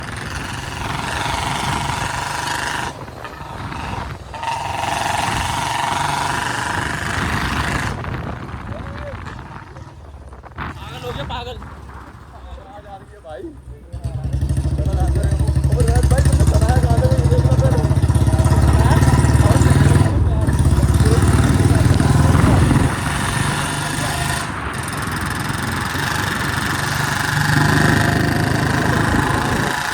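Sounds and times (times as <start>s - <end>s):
motorcycle engine revving: 0.0s - 12.4s, 13.8s - 29.9s.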